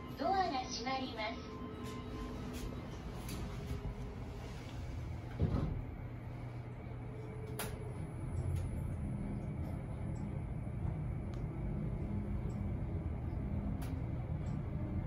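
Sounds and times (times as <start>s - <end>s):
elevator humming: 0.0s - 15.0s
elevator doors closing with a thud: 1.8s - 15.0s.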